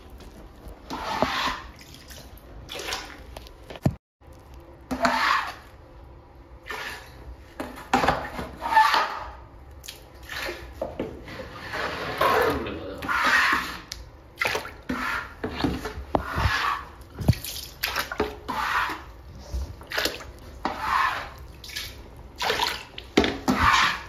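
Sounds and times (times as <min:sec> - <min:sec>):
water splashing and sloshing: 0:00.0 - 0:05.8, 0:06.6 - 0:24.0.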